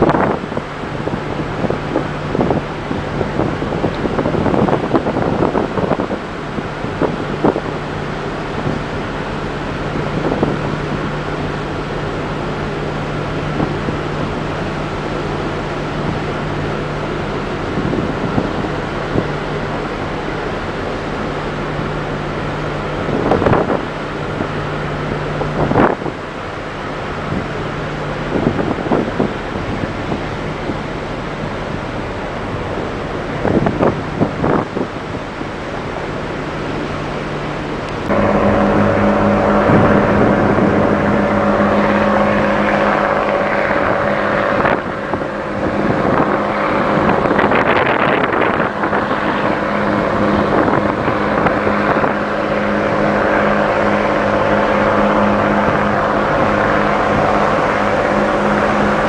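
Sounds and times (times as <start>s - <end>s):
ship low hum: 0.0s - 59.0s
wind buffeting microphone: 0.0s - 59.0s.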